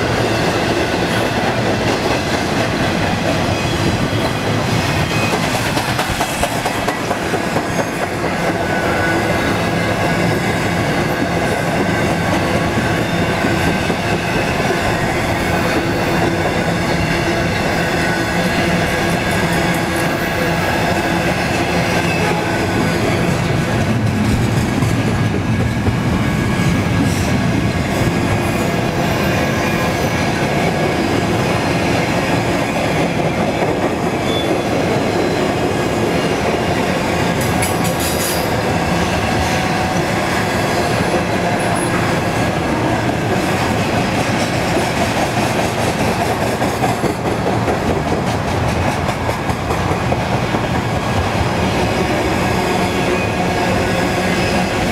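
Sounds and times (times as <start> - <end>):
rail-joint clickety-clack: 0.0 - 54.9
train wheels rumbling on rails: 0.0 - 54.9.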